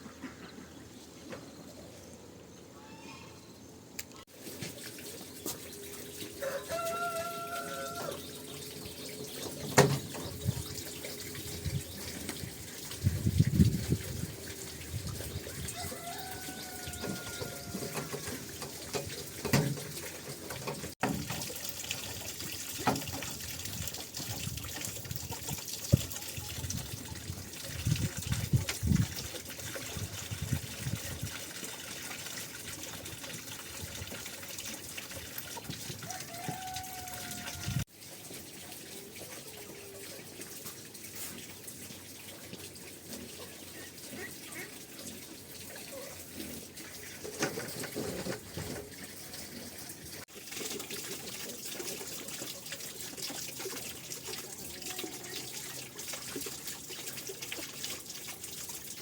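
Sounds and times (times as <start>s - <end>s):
running water pouring: 4.3s - 59.0s.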